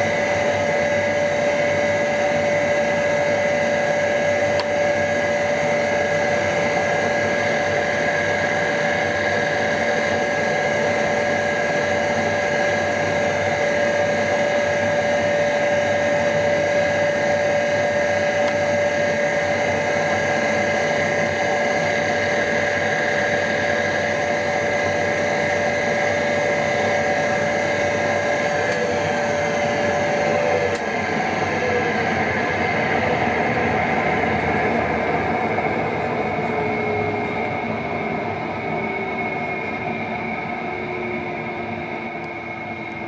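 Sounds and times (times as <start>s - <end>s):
surface grinder whine: 0.0s - 43.0s.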